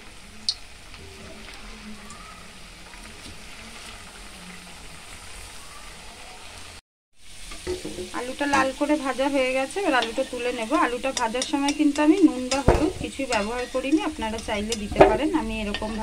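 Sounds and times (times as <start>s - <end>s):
potatoes frying in oil: 0.0s - 16.0s.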